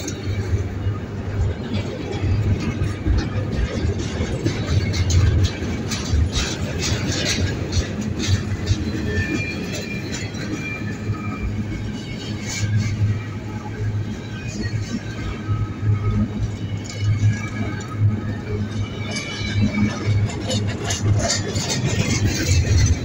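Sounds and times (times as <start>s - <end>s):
train wheels rumbling on rail: 0.0s - 23.0s
wheels clacking over rail joints: 0.0s - 23.0s.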